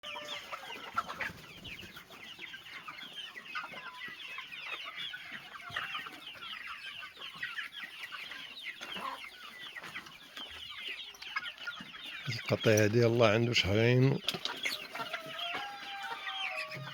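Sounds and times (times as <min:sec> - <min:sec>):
chicks cheeping and clucking: 0:00.0 - 0:16.9.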